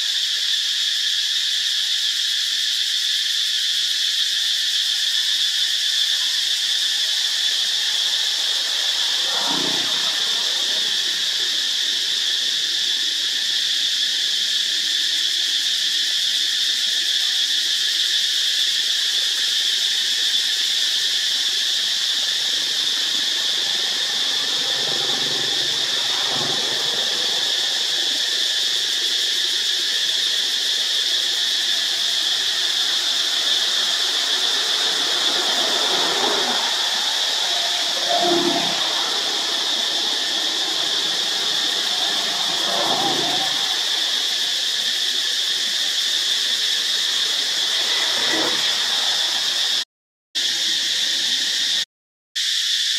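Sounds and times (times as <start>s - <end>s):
insects droning: 0.0s - 49.8s, 50.4s - 52.9s.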